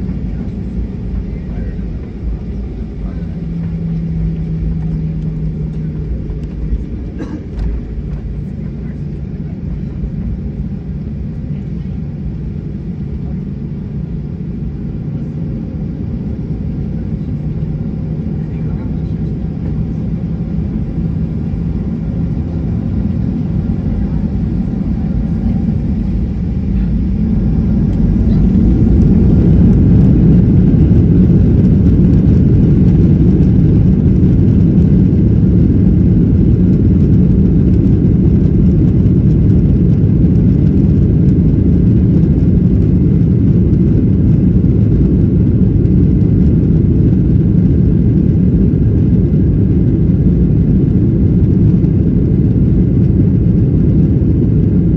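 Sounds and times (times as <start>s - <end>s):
jet engine rumble in cabin: 0.0s - 54.9s.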